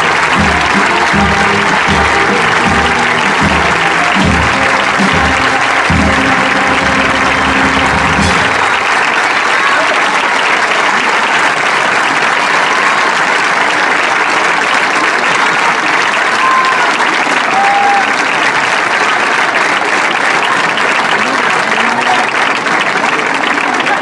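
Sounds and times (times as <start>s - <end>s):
large crowd applauding: 0.0s - 24.0s.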